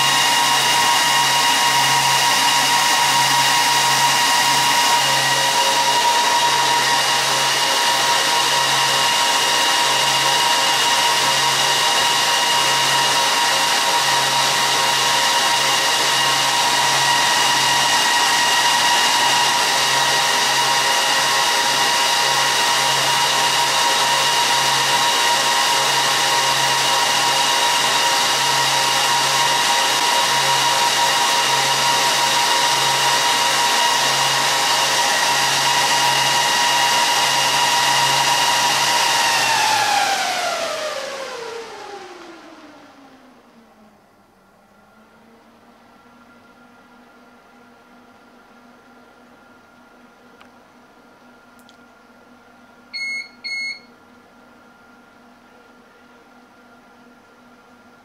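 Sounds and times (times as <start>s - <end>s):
whining fan tones: 0.0s - 50.5s, 53.0s - 53.9s
server cooling fans rushing: 0.0s - 58.0s.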